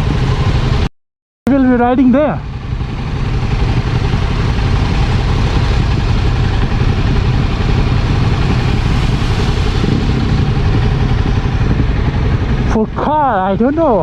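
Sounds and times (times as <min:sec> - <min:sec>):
motorcycle engine running: 0:00.0 - 0:00.9, 0:01.5 - 0:14.0
wind rush on microphone: 0:00.0 - 0:00.9, 0:02.8 - 0:14.0.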